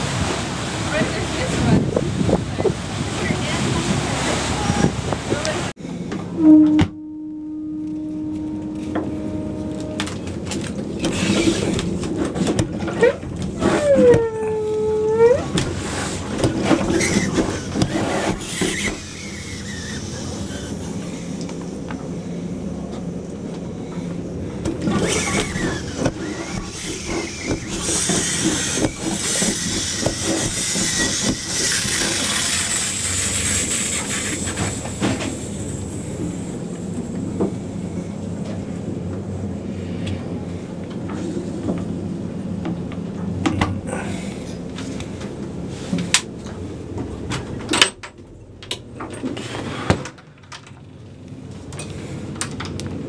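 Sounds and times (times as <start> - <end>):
low mechanical hum: 5.8 - 53.0.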